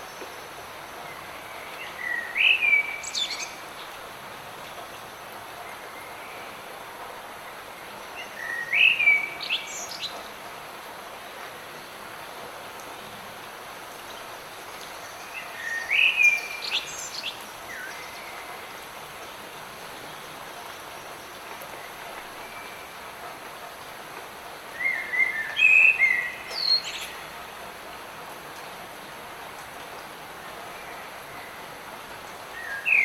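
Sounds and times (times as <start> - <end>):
light rain hiss: 0.0 - 33.0.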